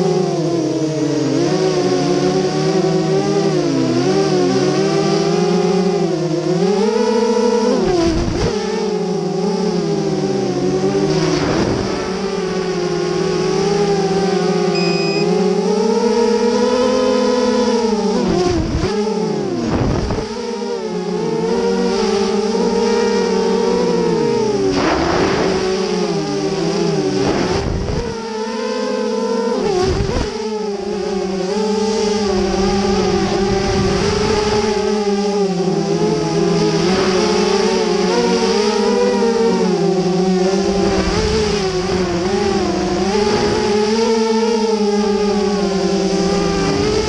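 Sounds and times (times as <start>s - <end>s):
drone motors whining: 0.0s - 47.0s.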